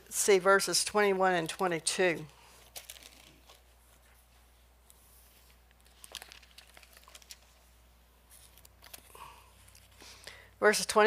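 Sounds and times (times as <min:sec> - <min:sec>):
paper pages rustling: 0:00.9 - 0:10.1.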